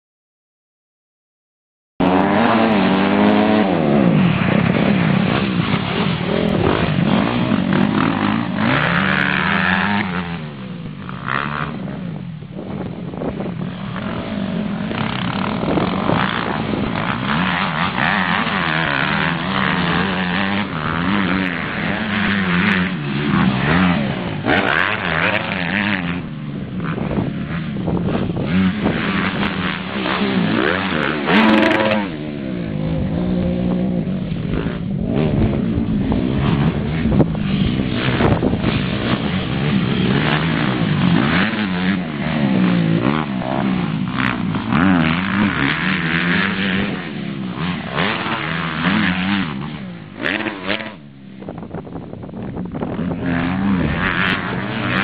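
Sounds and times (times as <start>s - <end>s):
dirt bike engines revving: 2.0s - 55.0s.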